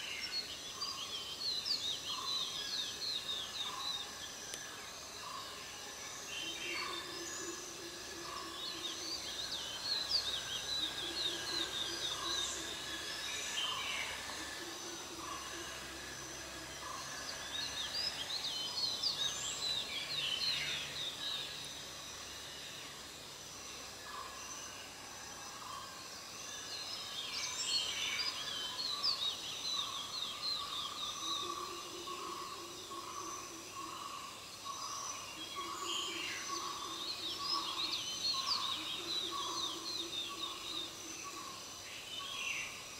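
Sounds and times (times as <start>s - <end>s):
insect drones: 0.0s - 42.9s
outdoor ambience: 0.0s - 42.9s.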